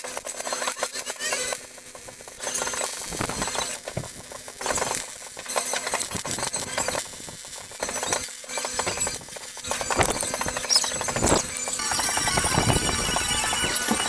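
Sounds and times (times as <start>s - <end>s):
welding arc crackling: 1.4s - 14.0s.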